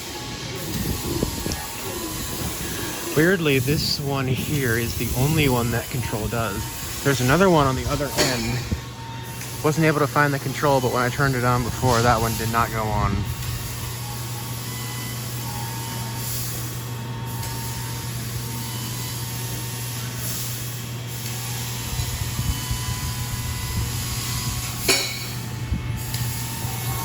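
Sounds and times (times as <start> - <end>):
ceiling fan motor hum: 0.0 - 27.0.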